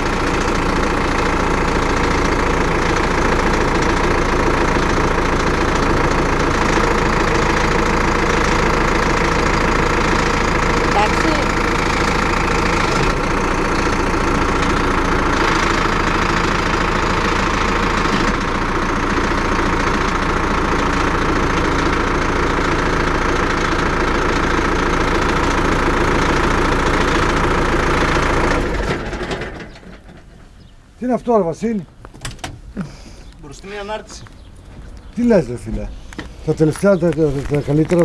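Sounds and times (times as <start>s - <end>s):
tractor diesel engine idling: 0.0s - 38.0s.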